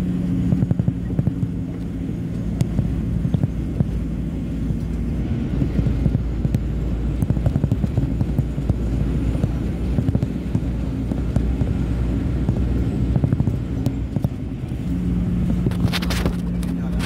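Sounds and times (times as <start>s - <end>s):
steady drone: 0.0s - 17.0s
truck diesel engine rumble: 0.0s - 17.0s
rattles and clicks in cab: 0.4s - 17.0s.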